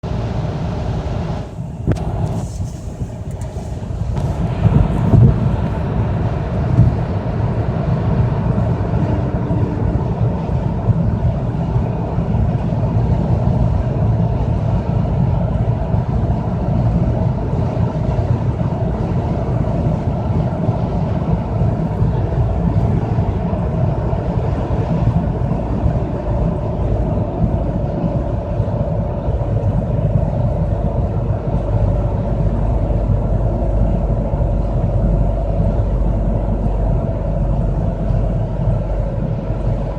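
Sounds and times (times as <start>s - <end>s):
car road and drivetrain noise: 0.0s - 39.9s
pulsing driveshaft hum: 0.0s - 39.9s.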